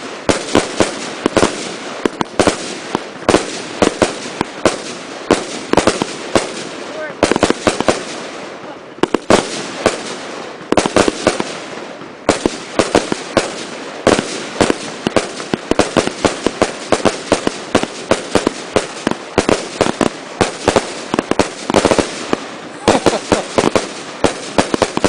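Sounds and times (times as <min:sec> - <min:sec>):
continuous rushing hiss: 0:00.0 - 0:25.0
fireworks bangs: 0:00.0 - 0:25.0.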